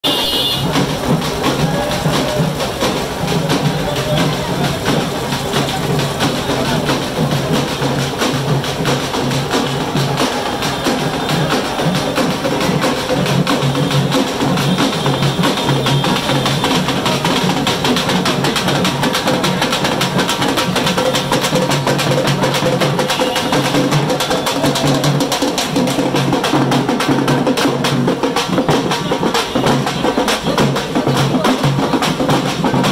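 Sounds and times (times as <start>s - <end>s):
procession music with rapid drumming: 0.0s - 32.9s.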